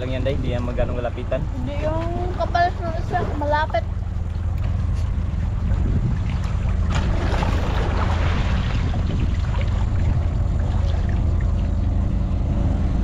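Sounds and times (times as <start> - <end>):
distant boat engine drone: 0.0 - 13.0
water splashing and lapping: 0.0 - 13.0.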